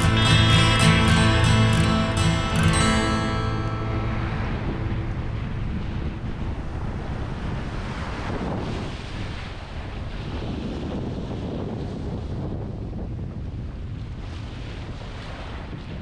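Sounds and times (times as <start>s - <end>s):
small surf breaking on beach: 0.0s - 16.0s
wind rumbling on microphone: 0.0s - 16.0s.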